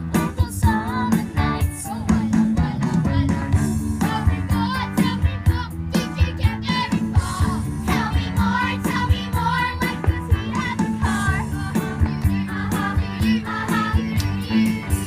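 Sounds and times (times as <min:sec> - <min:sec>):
rock and roll song with singing: 0:00.0 - 0:15.0.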